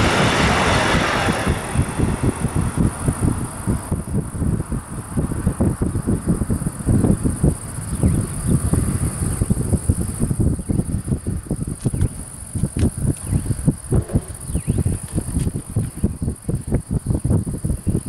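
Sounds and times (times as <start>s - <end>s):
wind buffeting microphone: 0.0s - 18.0s
insects chirring: 1.8s - 18.0s.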